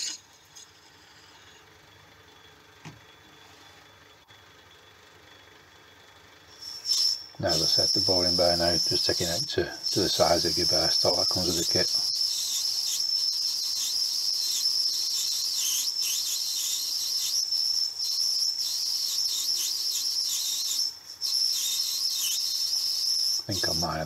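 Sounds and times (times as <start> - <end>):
metal lathe high-pitched whine: 3.8 - 24.0.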